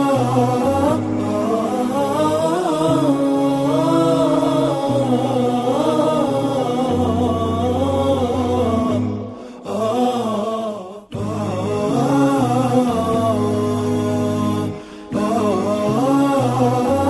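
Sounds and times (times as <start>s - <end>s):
wordless chanted singing: 0.0s - 17.0s.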